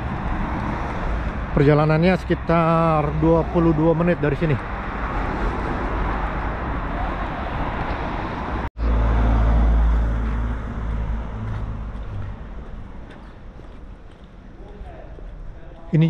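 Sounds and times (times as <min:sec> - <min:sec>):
cars driving past: 0:00.0 - 0:15.7.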